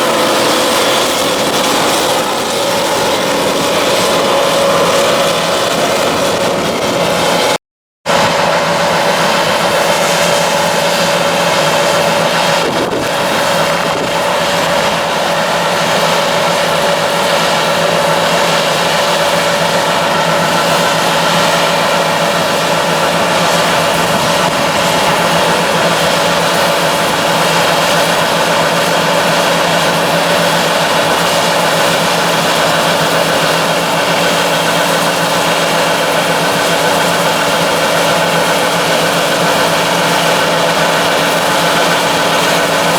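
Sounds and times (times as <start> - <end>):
diesel engine drone: 0.0 - 42.9
harvesting machinery whirring: 0.0 - 42.9.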